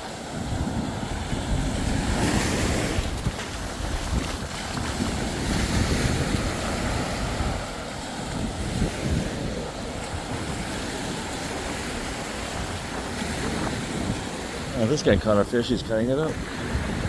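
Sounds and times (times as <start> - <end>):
surf washing on beach: 0.0 - 17.0
wind buffeting microphone: 0.0 - 17.0.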